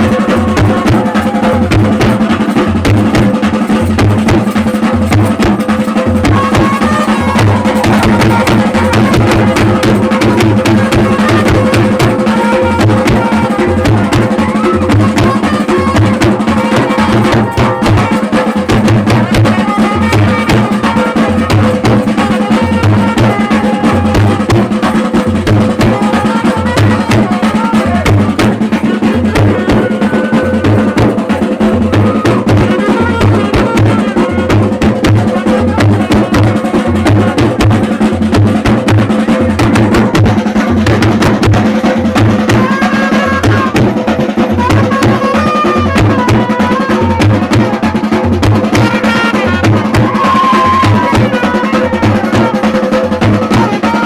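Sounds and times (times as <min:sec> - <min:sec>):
band playing traditional music: 0:00.0 - 0:54.0
drums beating rhythm: 0:00.0 - 0:54.0.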